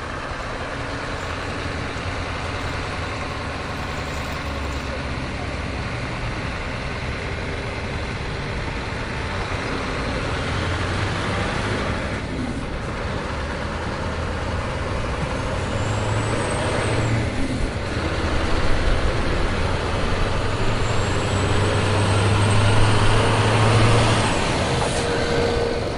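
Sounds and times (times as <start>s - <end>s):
truck engine running: 0.0s - 25.9s.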